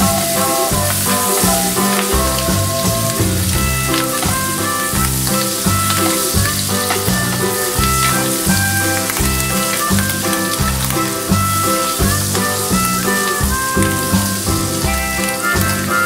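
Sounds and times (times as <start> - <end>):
background music with bass line: 0.0 - 16.0
squid sizzling in a pan: 0.0 - 16.0.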